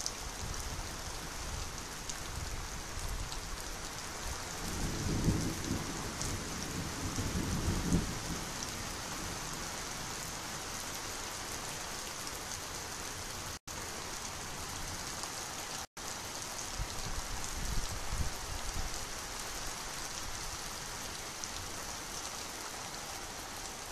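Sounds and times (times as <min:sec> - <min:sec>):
light rain hissing: 0:00.0 - 0:23.9.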